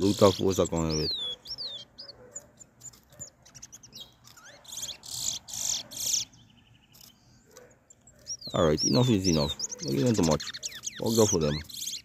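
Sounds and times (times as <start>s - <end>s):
finch singing chirps and trills: 0.0s - 12.0s.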